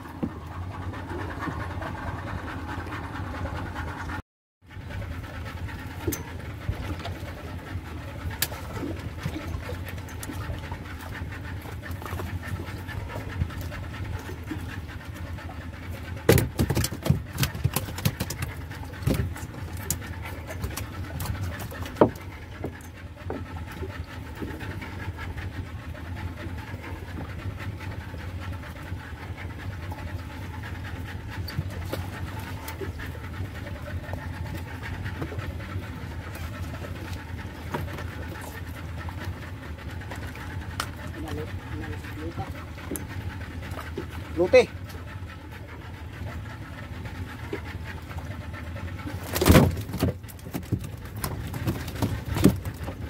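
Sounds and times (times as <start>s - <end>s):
boat engine humming: 0.0s - 53.0s.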